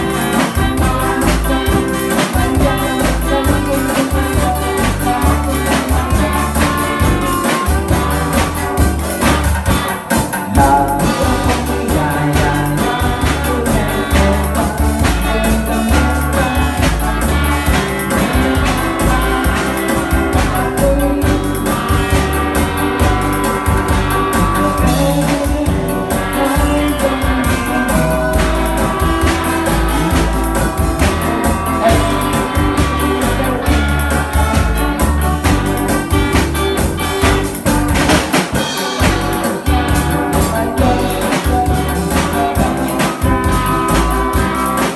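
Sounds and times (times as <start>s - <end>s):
drum kit steady beat: 0.0s - 44.9s
electric bass: 0.0s - 44.9s
electric guitar: 0.0s - 44.9s.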